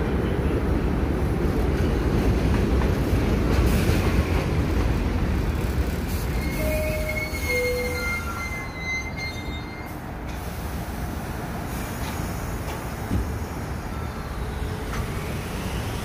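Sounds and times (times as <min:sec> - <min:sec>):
train cars rumbling past: 0:00.0 - 0:16.0
train doors closing: 0:00.0 - 0:16.0.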